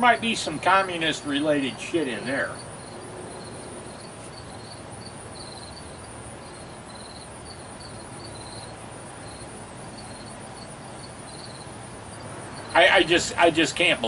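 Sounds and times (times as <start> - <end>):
crickets chirping in trills: 0.0 - 14.0
high-pitched insect drone: 0.0 - 14.0.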